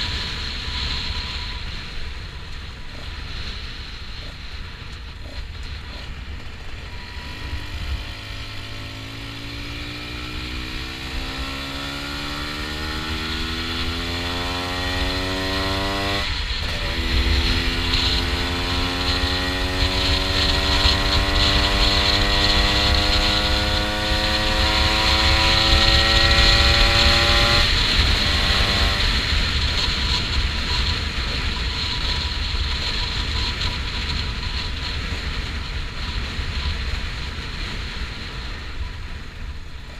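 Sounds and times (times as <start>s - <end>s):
two-stroke motorcycle engine revving: 0.0s - 39.9s
wind rush on microphone: 0.0s - 39.9s.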